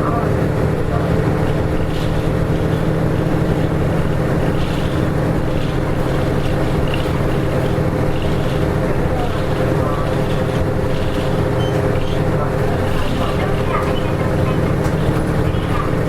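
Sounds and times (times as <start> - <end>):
diesel bus engine drone: 0.0 - 16.0
road noise: 0.0 - 16.0.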